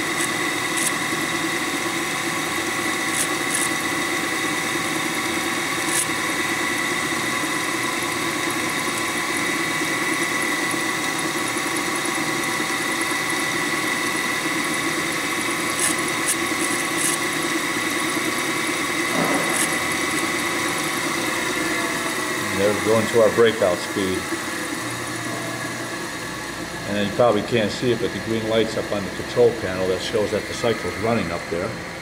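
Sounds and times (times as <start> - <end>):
drilling machine humming and whining: 0.0 - 32.0.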